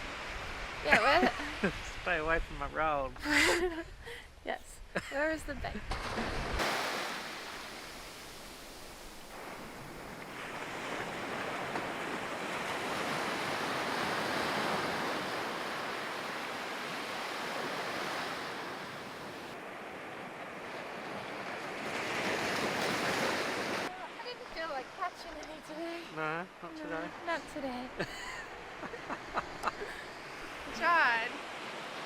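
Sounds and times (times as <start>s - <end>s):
ocean surf on sandy beach: 0.0s - 4.2s, 4.9s - 32.0s.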